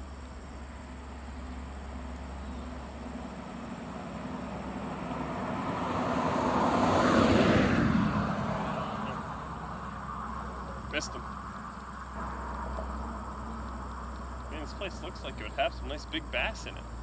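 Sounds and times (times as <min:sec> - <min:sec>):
car passing by: 0:02.8 - 0:16.8.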